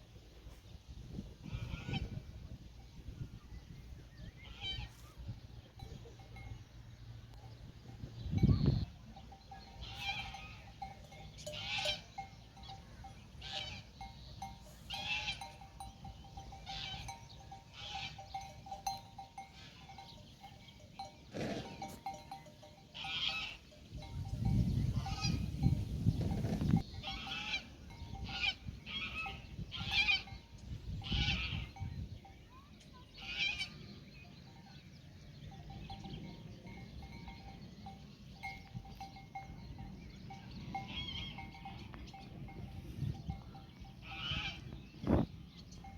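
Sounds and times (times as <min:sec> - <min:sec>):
livestock bells clanking: 0:05.6 - 0:33.1, 0:34.4 - 0:44.6, 0:45.5 - 0:45.9.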